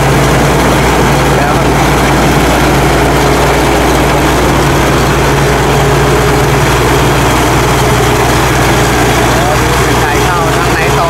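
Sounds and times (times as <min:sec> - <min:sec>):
combine harvester engine hum: 0:00.0 - 0:11.0
threshing machinery noise: 0:00.0 - 0:11.0.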